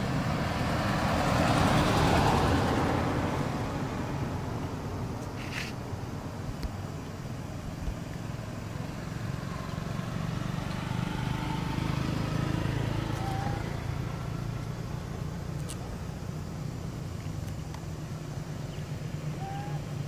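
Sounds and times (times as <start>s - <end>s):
vehicle engine rumble passing: 0.0s - 20.0s.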